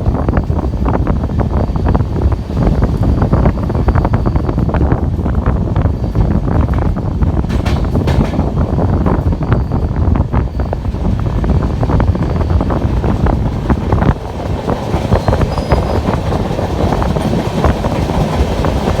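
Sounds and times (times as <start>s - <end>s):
train rumbling on track: 0.0s - 19.0s
train wheels clicking: 0.0s - 19.0s.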